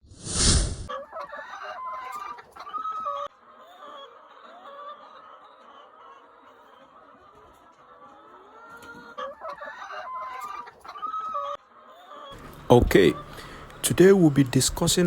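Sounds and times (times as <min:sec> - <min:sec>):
chickens clucking: 0:00.9 - 0:15.0.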